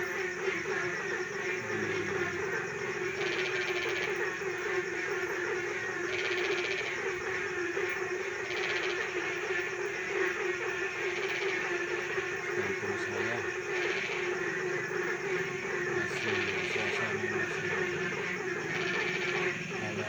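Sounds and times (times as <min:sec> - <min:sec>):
high-pitched frog trill: 0:00.0 - 0:09.7, 0:10.3 - 0:20.0
frogs croaking: 0:00.0 - 0:20.0.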